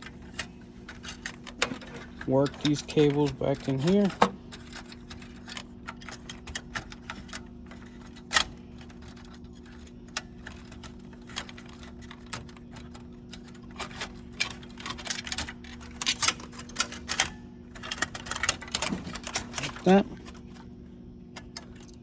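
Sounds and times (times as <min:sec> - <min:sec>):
small clicks and rattles: 0:00.0 - 0:22.0
steady low hum: 0:00.0 - 0:22.0.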